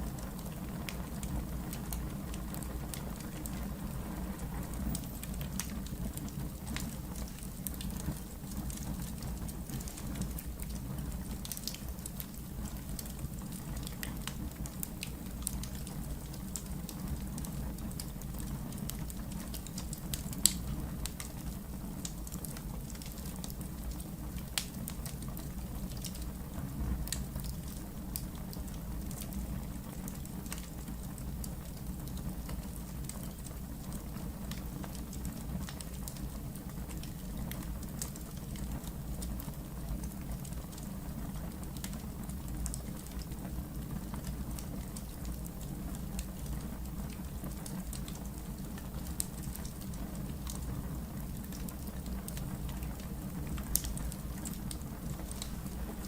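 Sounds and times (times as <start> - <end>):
fire crackles and pops: 0.0 - 56.0
fire flames rumbling: 0.0 - 56.0.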